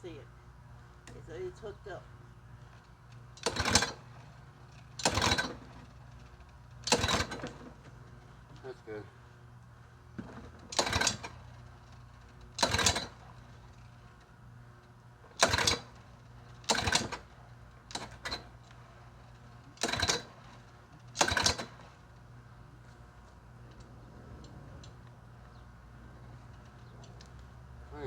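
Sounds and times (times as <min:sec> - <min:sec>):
lawn mower engine cranking: 0:02.7 - 0:09.0, 0:10.2 - 0:28.0.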